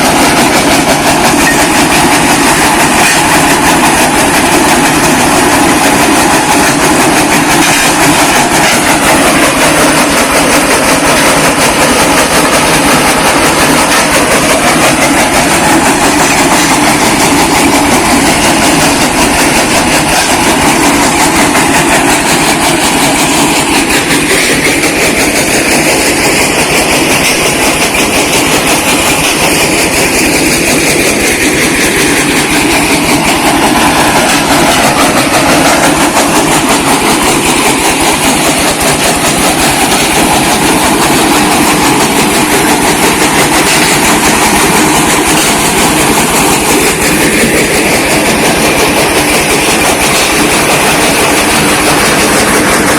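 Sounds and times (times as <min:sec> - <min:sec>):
brick crushing machine clatter: 0:00.0 - 0:52.9.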